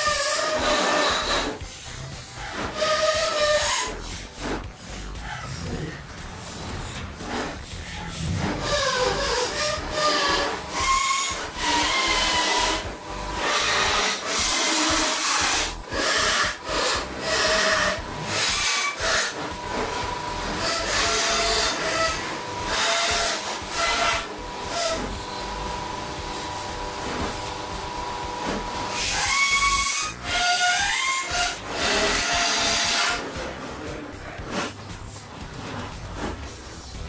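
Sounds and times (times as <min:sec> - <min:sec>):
belt sander grinding metal: 0:00.0 - 0:05.2, 0:06.2 - 0:37.0.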